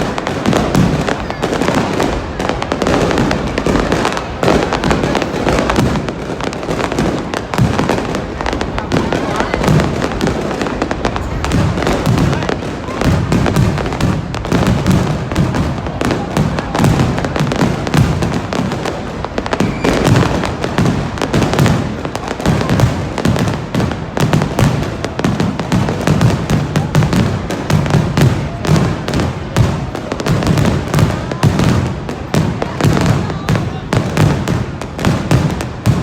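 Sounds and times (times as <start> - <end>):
fireworks booming: 0.0 - 36.0
fireworks crackling: 0.0 - 36.0.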